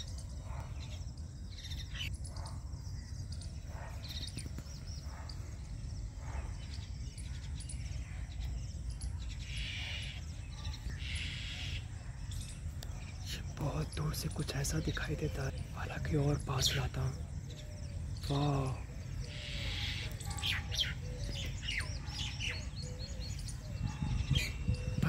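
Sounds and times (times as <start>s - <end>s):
rapid chattering bird calls: 0.0s - 25.0s
wild birds chirping: 0.0s - 25.0s.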